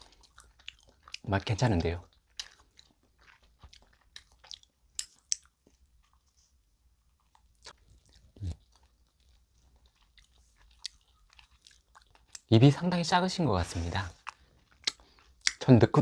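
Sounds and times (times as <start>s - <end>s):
person chewing crunchy food: 0.0s - 12.5s, 13.7s - 15.6s.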